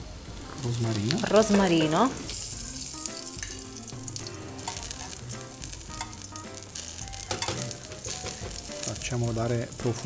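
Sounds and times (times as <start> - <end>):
oil sizzling in a frying pan: 0.0 - 10.0.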